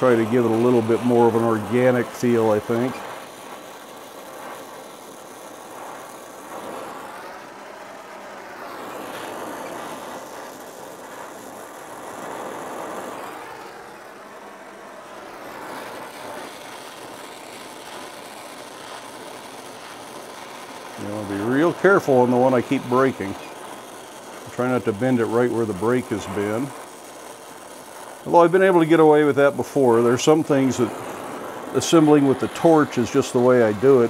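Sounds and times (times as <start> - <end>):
torch flame hissing: 0.0 - 34.0.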